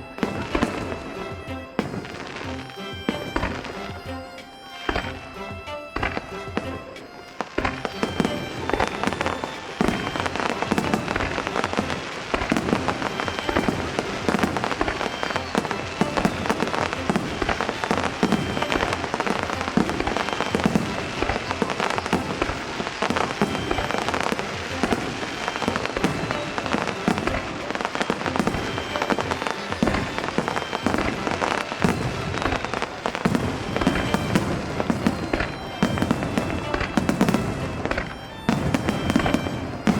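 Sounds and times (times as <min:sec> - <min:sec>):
fireworks bursting and crackling: 0:00.0 - 0:39.9
music playing: 0:00.0 - 0:39.9.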